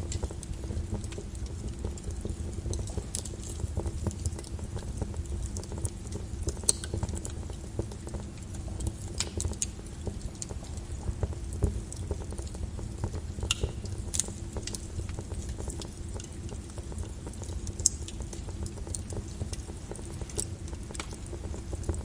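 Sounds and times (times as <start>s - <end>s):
lava crackling: 0.0s - 22.0s
lava low rumble: 0.0s - 22.0s.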